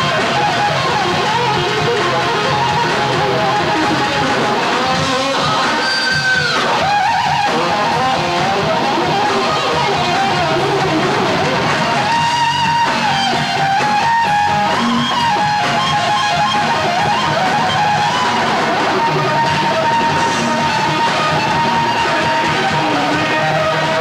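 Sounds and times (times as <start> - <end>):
distorted electric guitars: 0.0 - 24.0
drums: 0.0 - 24.0.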